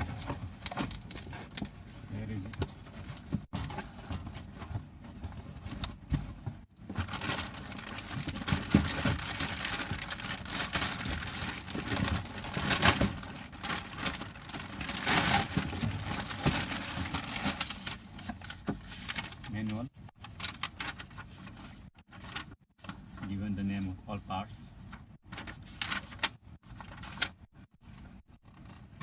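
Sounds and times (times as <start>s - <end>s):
plastic and paper crinkling: 0.0s - 23.4s, 24.9s - 27.4s.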